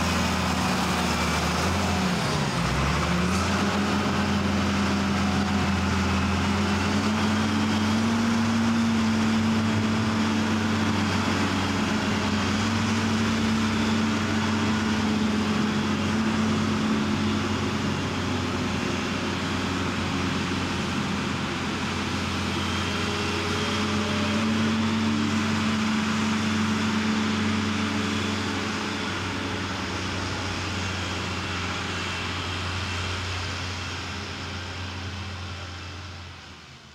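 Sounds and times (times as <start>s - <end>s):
diesel engine revving: 0.0s - 36.4s.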